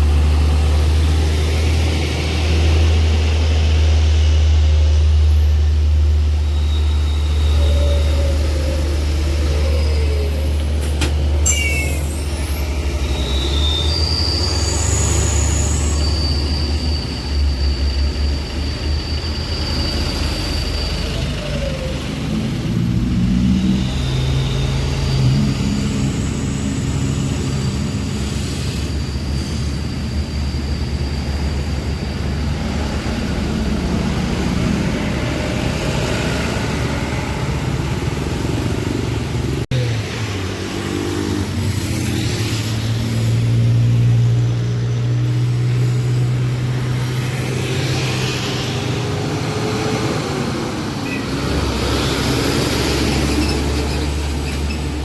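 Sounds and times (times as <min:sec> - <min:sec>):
diesel truck engines labouring: 0:00.0 - 0:55.0.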